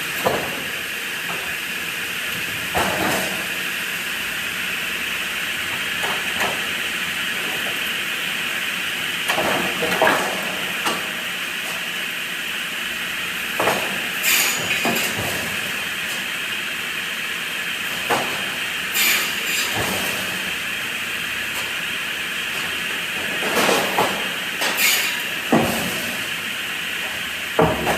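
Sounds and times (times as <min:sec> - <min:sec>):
mill machinery running: 0:00.0 - 0:27.9.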